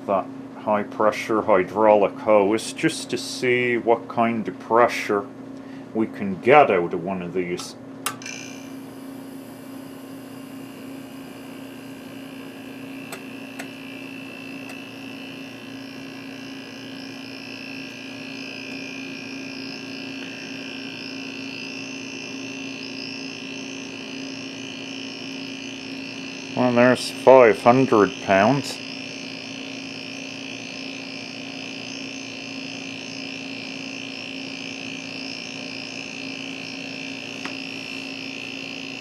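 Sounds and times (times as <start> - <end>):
refrigerator compressor humming: 0.0 - 39.0.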